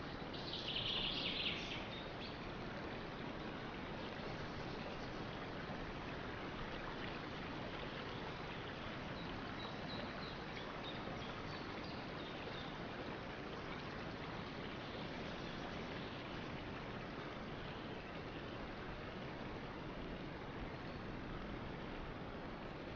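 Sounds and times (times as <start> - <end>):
stream water rushing: 0.0 - 22.9.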